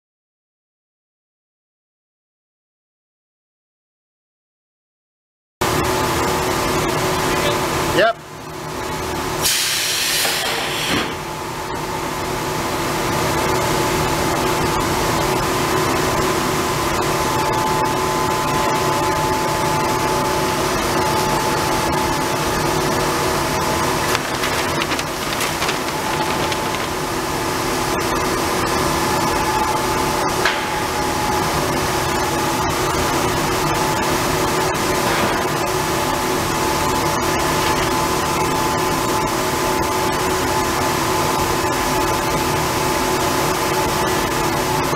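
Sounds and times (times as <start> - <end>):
machinery humming and whirring: 5.6 - 44.9.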